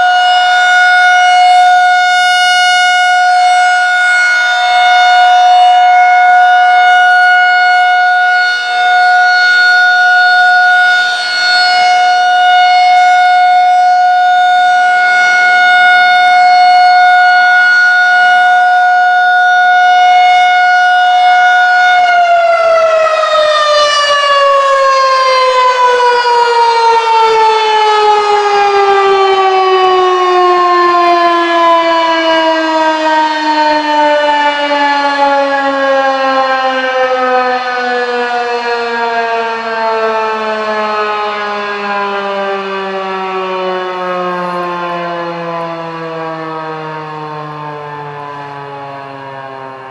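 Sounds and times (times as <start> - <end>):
rotating siren wailing: 0.0 - 49.9.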